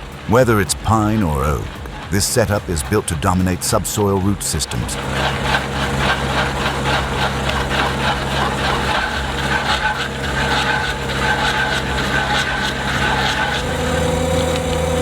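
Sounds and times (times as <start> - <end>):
diesel engine running: 0.0 - 15.0
stump planer chattering: 0.0 - 15.0.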